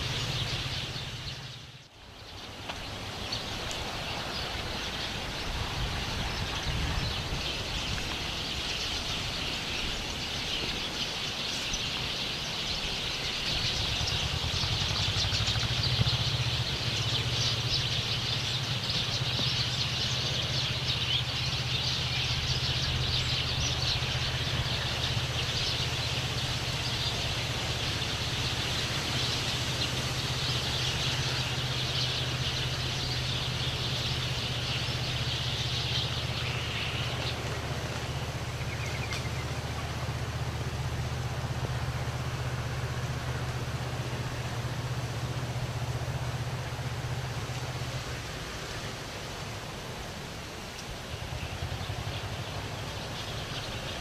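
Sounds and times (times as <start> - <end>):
low drone of traffic: 0.0 - 54.0
small birds chirping: 0.0 - 54.0.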